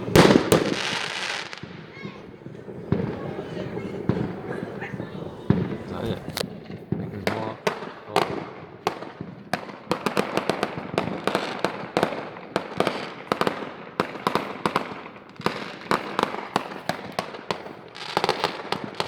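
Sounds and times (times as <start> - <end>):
fireworks bangs and crackling pops: 0.0 - 19.0.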